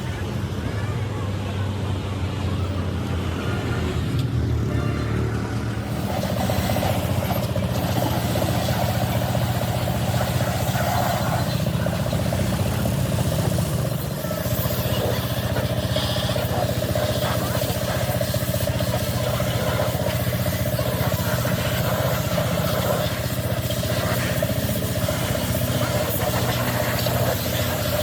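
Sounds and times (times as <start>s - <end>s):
engine running: 0.0s - 28.0s
steady higher whine: 4.7s - 28.0s.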